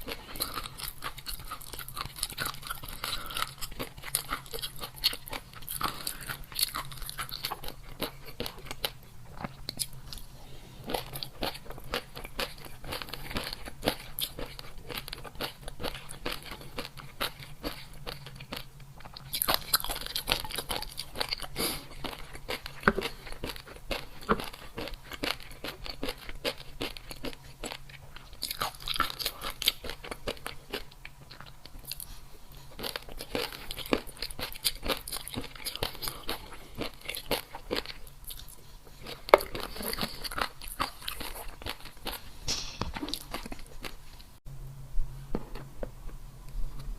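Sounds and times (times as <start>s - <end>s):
person chewing crunchy food: 0.0s - 44.4s.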